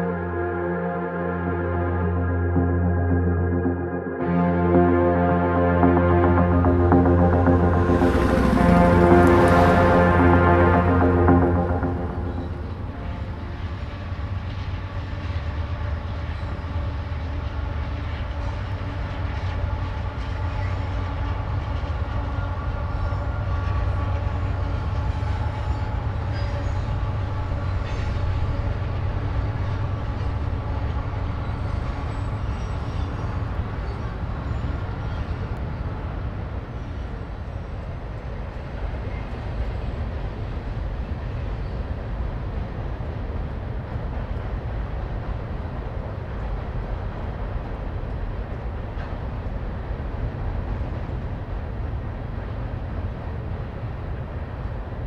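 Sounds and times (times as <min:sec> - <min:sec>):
freight train rumbling over bridge: 0:00.0 - 0:55.0.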